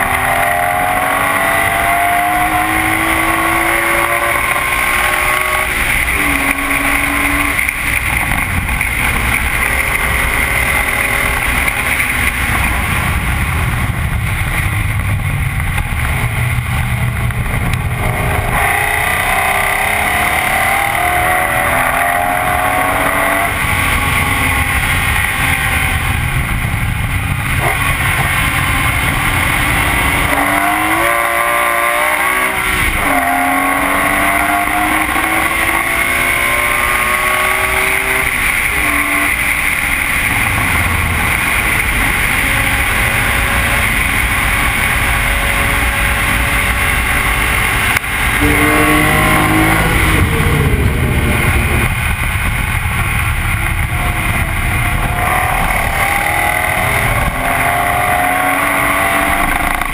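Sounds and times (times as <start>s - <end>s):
car engine accelerating hard: 0.0s - 59.9s
wind and road noise: 0.0s - 59.9s.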